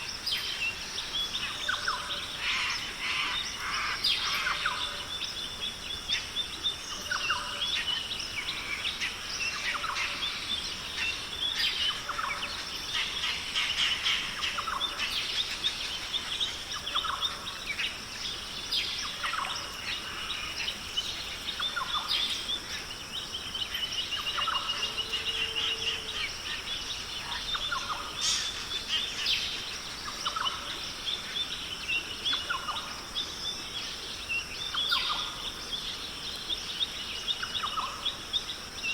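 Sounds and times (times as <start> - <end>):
birds calling and chirping: 0.0 - 38.9.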